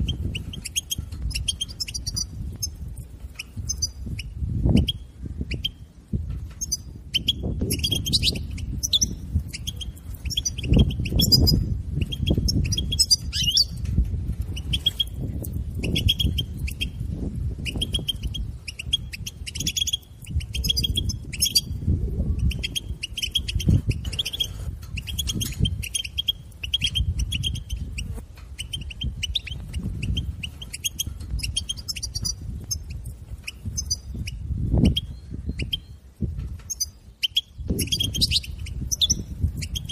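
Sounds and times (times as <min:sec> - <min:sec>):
bird twittering: 0:00.0 - 0:05.9, 0:06.5 - 0:13.9, 0:14.5 - 0:36.0, 0:36.6 - 0:39.9.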